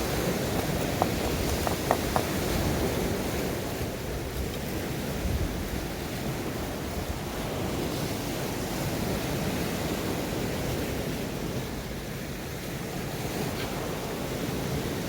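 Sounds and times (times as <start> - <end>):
wind rumble on microphone: 0.0 - 12.1
sea surf washing on shore: 0.0 - 15.0.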